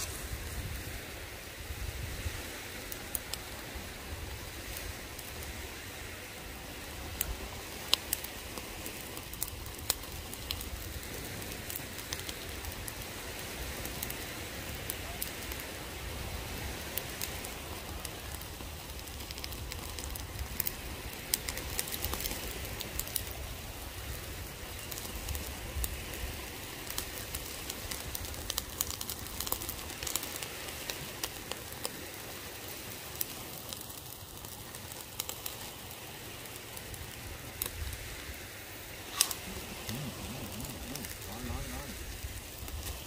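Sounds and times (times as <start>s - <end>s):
fire crackling and popping: 0.0s - 43.0s
meat sizzling over open fire: 0.0s - 43.0s.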